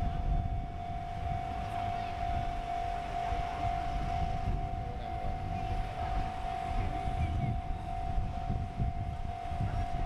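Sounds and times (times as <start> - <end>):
railroad crossing warning bell: 0.0 - 10.0.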